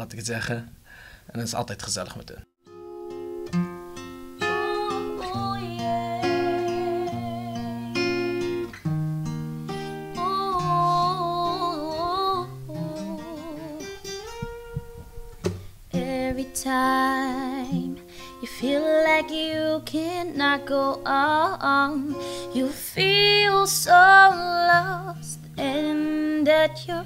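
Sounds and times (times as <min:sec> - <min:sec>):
acoustic guitar plucked tune: 0:02.6 - 0:27.0.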